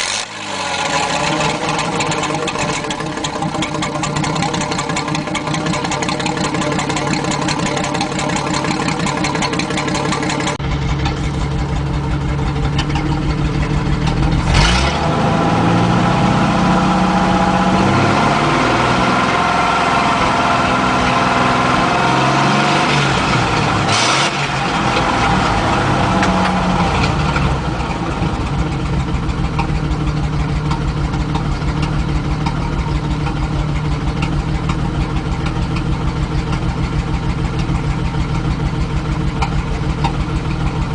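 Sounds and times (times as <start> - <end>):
pickup engine idling and revving: 0.0 - 40.9.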